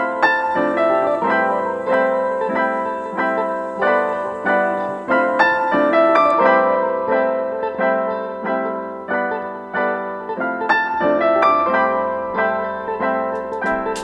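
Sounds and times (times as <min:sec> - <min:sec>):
slow melody of struck notes: 0:00.0 - 0:14.0.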